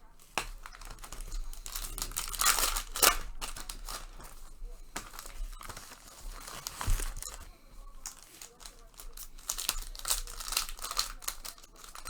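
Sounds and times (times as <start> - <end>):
wrappers crinkling and tearing: 0.0 - 12.0.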